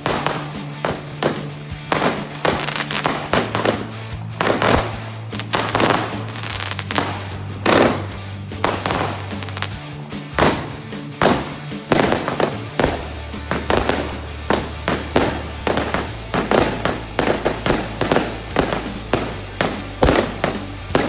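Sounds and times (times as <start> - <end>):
background music with bass: 0.0 - 21.0
fireworks banging and crackling: 0.0 - 21.0.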